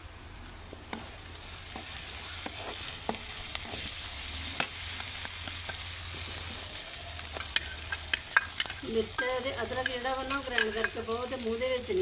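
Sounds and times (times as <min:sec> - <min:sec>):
onions sizzling in hot oil: 0:00.5 - 0:12.0.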